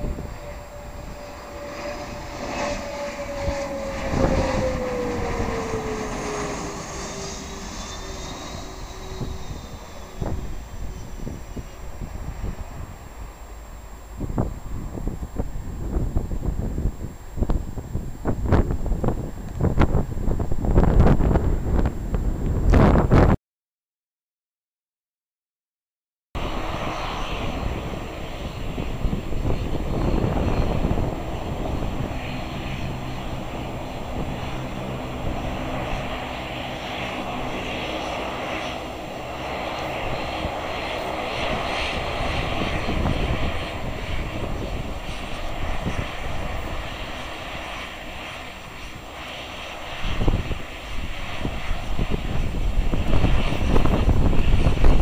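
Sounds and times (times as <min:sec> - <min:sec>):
turboprop engines droning: 0:00.0 - 0:23.4, 0:26.4 - 0:55.0.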